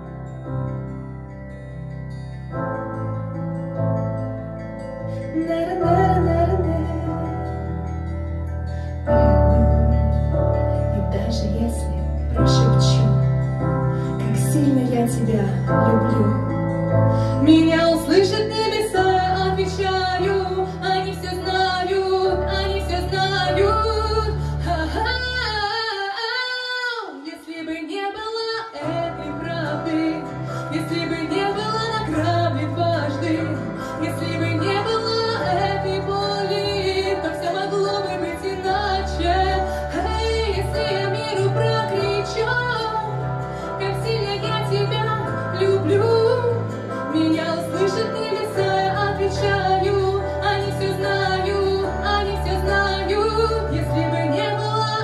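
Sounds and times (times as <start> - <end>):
instrumental backing track: 0.0 - 55.0
woman singing into a microphone: 5.1 - 55.0.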